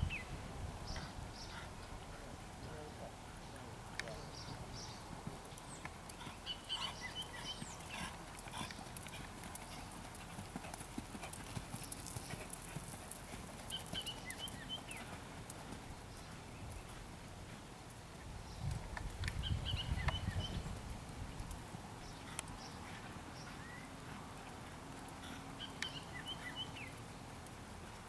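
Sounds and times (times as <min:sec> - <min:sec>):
horse hooves trotting on sand: 0:00.9 - 0:28.0.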